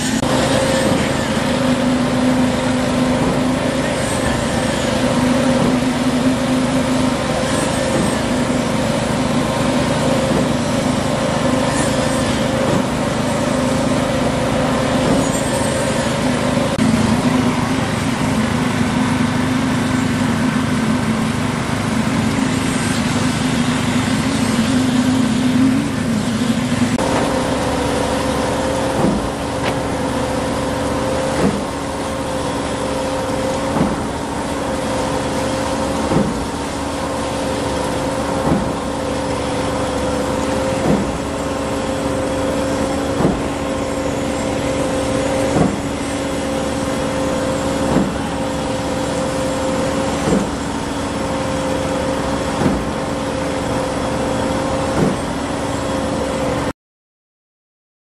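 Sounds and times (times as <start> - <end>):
small petrol engines running: 0.0 - 56.7.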